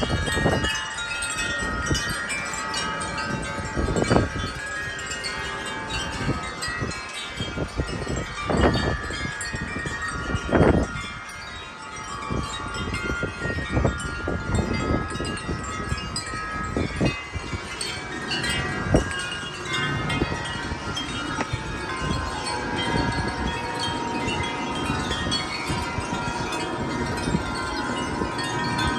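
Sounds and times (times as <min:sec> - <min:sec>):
wind buffeting microphone: 0:00.0 - 0:28.9
wind chimes ringing: 0:00.0 - 0:28.9.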